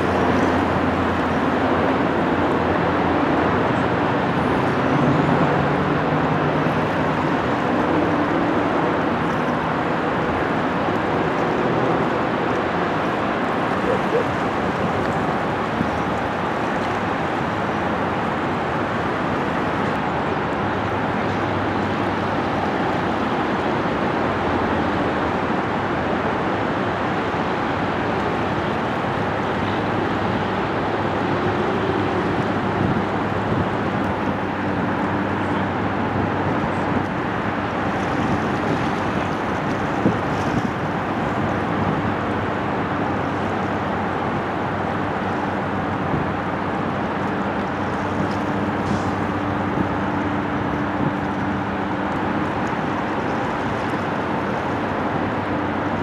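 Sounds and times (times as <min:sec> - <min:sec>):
distant engines: 0:00.0 - 0:56.0
low engine drone: 0:00.0 - 0:56.0
wind rumble: 0:00.0 - 0:56.0.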